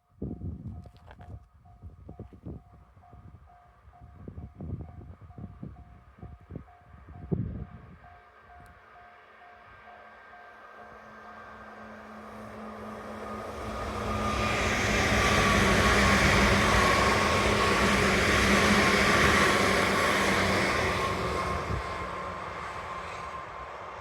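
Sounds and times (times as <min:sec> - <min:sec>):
electric train passing: 0:03.0 - 0:24.0.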